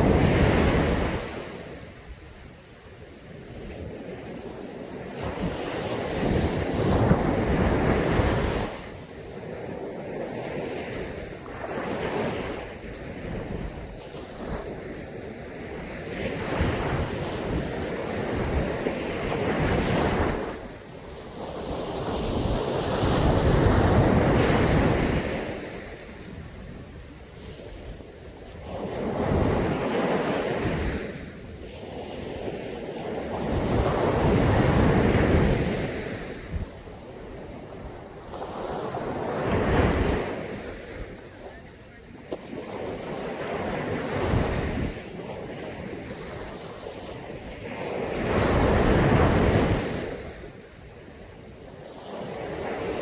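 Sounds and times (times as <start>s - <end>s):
waves breaking on beach: 0.0s - 53.0s.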